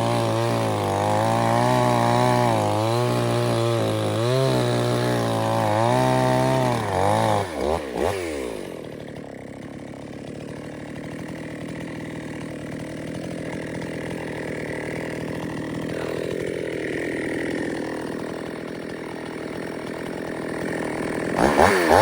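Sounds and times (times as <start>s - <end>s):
chainsaw engine running: 0.0s - 22.0s.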